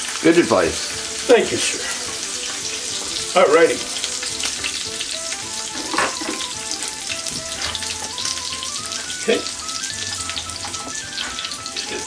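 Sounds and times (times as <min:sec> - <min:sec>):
sandwich sizzling in waffle iron: 0:00.0 - 0:12.0
light background tune: 0:00.3 - 0:12.0.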